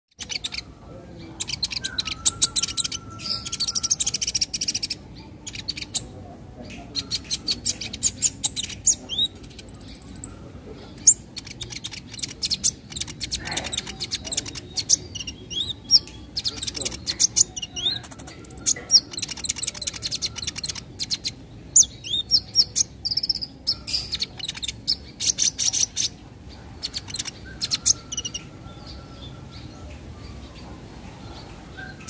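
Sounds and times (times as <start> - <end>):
sharp upslurred chirps: 0.1 - 29.7
sunbird chattering: 0.1 - 32.0.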